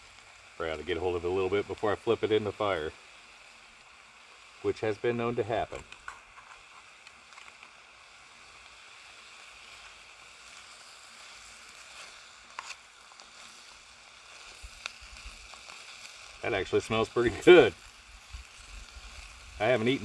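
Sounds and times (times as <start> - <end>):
meat and onion sizzling: 0.0 - 20.0.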